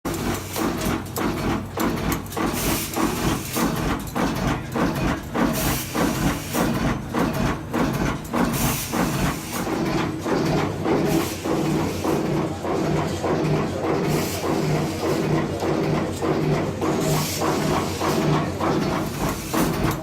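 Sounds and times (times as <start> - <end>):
machine stamping steel strip: 0.1 - 20.0.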